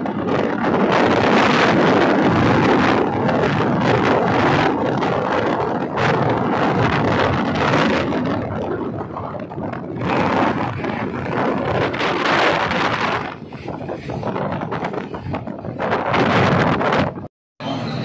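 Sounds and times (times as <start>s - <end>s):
road and engine noise: 0.0s - 18.0s
wind buffeting microphone: 0.0s - 18.0s.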